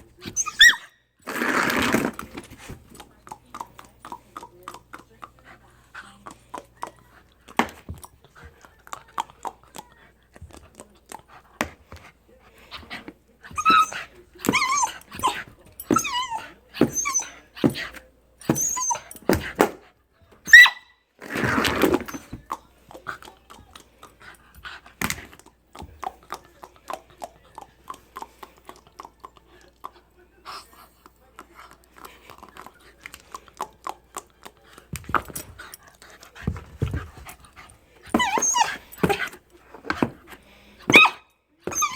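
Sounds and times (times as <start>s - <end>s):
dog vocal sounds: 2.9s - 19.6s, 21.4s - 40.2s, 40.8s - 41.9s.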